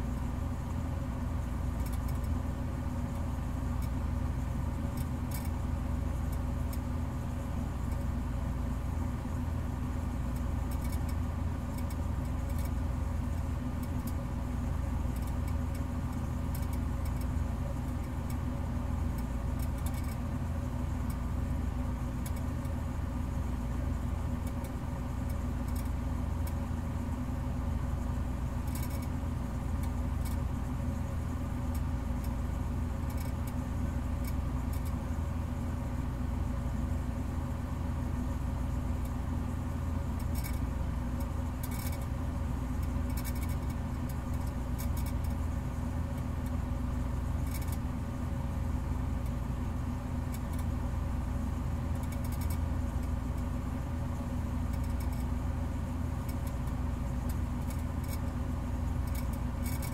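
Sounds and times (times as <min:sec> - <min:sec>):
low mechanical hum: 0:00.0 - 0:59.9
faint clicks and ticks: 0:01.4 - 0:02.4, 0:03.0 - 0:27.3, 0:28.0 - 0:35.9, 0:37.8 - 0:59.9.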